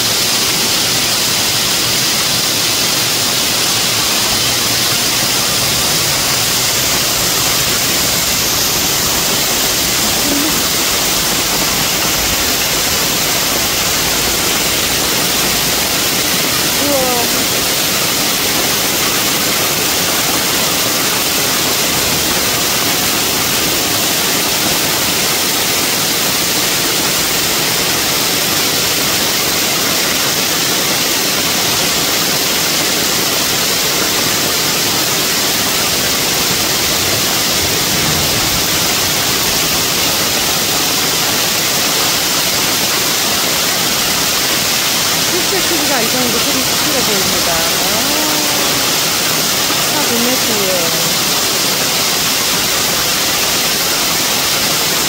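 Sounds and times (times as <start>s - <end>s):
heavy hail on pavement and car: 0.0s - 55.0s.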